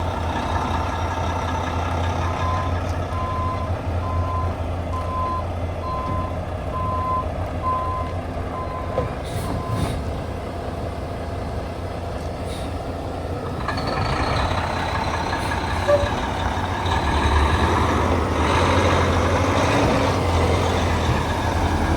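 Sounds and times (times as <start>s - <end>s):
diesel truck engine running: 0.0s - 21.9s.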